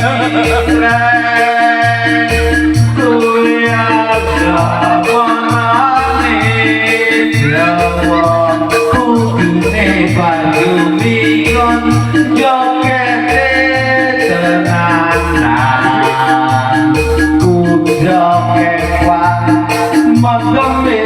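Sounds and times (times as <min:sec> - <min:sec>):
loud music over sound system: 0:00.0 - 0:21.0.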